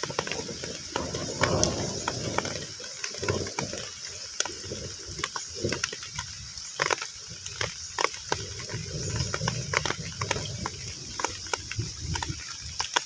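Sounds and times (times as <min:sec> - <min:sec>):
rain hissing on pond: 0:00.0 - 0:13.0.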